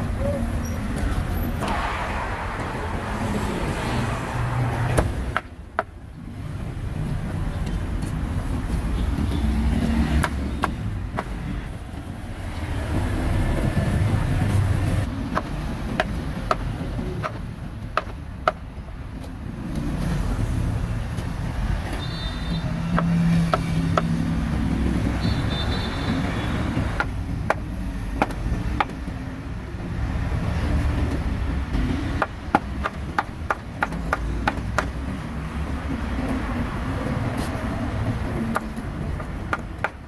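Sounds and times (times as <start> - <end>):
street traffic rumble: 0.0 - 40.0.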